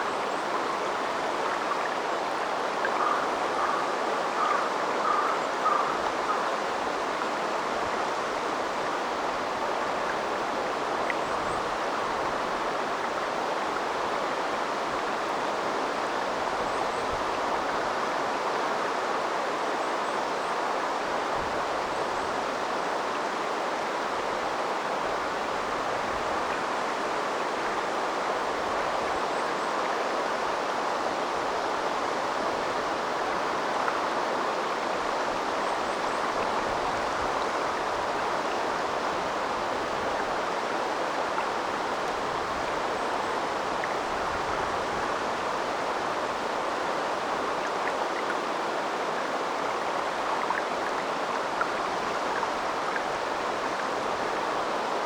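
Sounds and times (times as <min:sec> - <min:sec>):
river water flowing over stones: 0:00.0 - 0:55.0.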